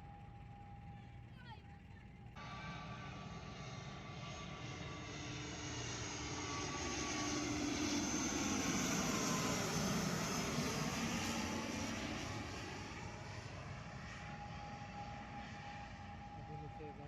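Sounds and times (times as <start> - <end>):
airliner engine noise: 0.0 - 17.0.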